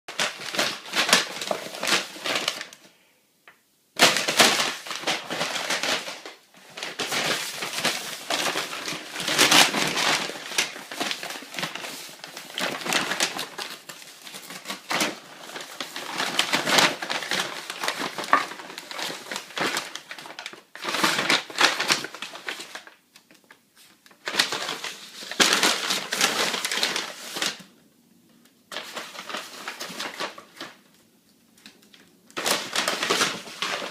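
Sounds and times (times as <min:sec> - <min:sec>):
crunching paper: 0:00.1 - 0:02.8, 0:04.0 - 0:27.7, 0:28.7 - 0:31.0, 0:31.6 - 0:33.9
dog tearing paper bag: 0:00.1 - 0:02.8, 0:04.0 - 0:23.0, 0:24.2 - 0:27.6, 0:28.7 - 0:30.8, 0:32.4 - 0:33.9.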